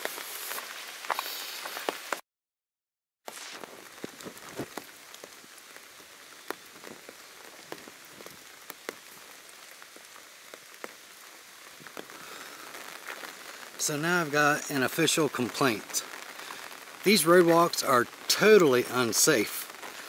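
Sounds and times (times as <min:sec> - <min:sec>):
steady rain falling: 0:00.0 - 0:02.2, 0:03.3 - 0:20.0.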